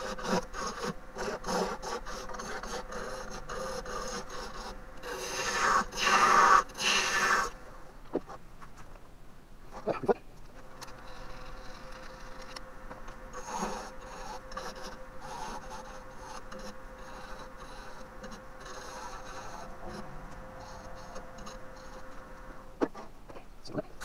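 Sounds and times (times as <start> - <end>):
wood lathe humming: 0.0 - 7.7, 10.7 - 22.8
turning tool scraping wood: 0.0 - 8.4, 10.6 - 22.7.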